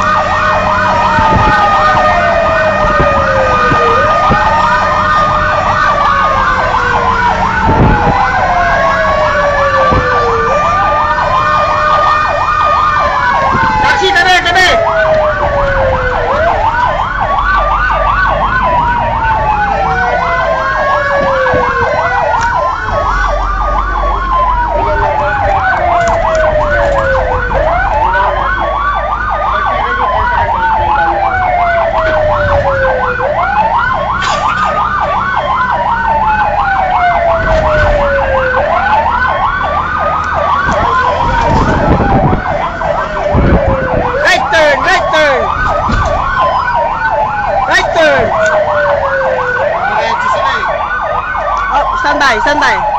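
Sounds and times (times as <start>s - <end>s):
siren wailing: 0.0s - 52.9s
siren yelping: 0.0s - 52.9s.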